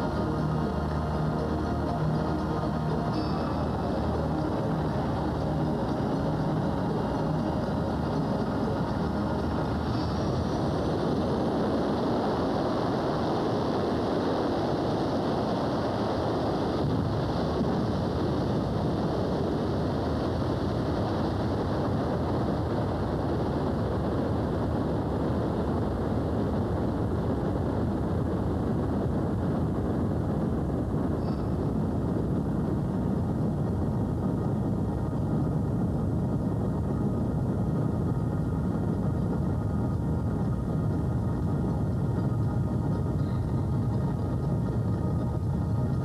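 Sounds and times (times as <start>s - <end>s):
music: 0.0s - 24.1s, 33.3s - 46.0s
jet engines running: 0.0s - 46.0s.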